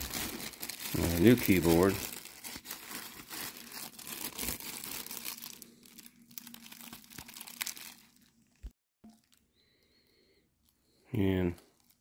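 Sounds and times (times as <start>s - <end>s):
plastic and bubble wrap crinkling: 0.0s - 12.0s.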